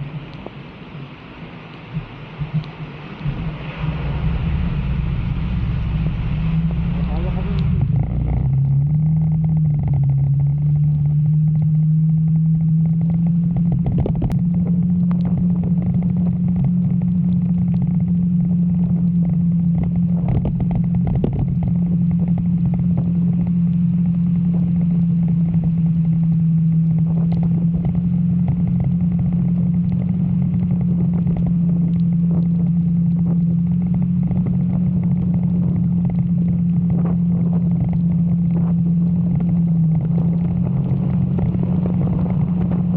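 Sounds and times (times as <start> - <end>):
rush of noise: 0.0 - 11.7, 12.3 - 42.9
motorcycle engine cruising: 0.0 - 42.9.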